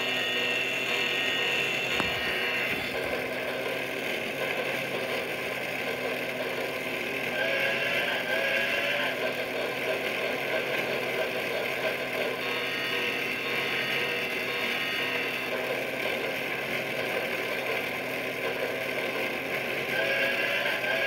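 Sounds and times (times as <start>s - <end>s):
toy train motor and gears: 0.0s - 21.0s.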